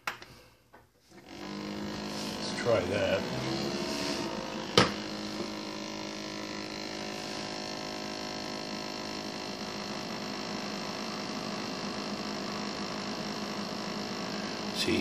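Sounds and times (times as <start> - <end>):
coffee machine humming: 1.1 - 15.0.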